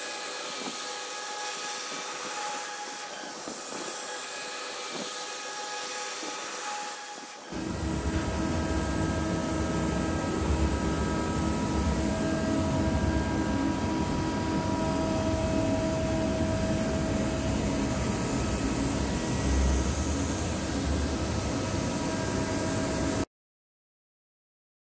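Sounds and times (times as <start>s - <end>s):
cnc machine whining: 0.0s - 23.2s.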